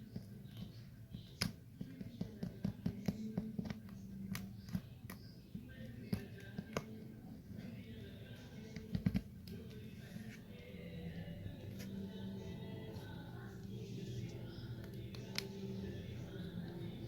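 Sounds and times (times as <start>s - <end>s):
background music: 0.8s - 17.0s.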